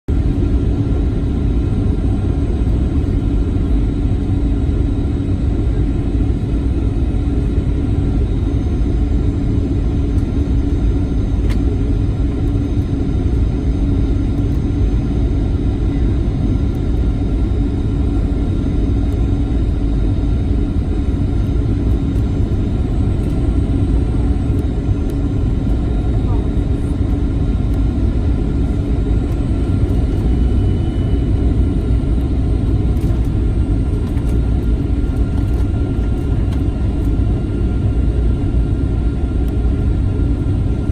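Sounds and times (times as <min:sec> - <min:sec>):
airplane cabin drone: 0:00.1 - 0:40.9.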